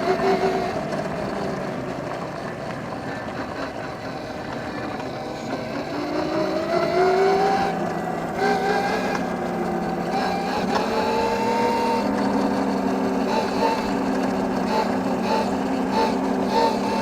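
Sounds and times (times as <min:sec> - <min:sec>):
electric motor whining: 0:00.0 - 0:17.0
wind and tyre noise: 0:00.0 - 0:17.0.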